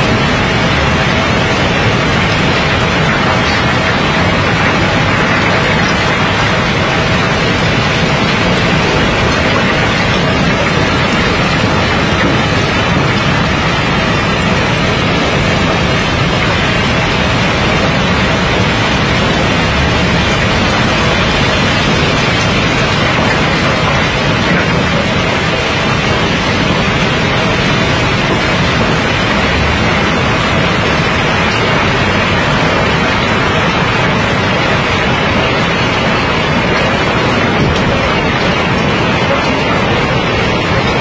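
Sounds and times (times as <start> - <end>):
river stones clattering down chute: 0.0 - 41.0.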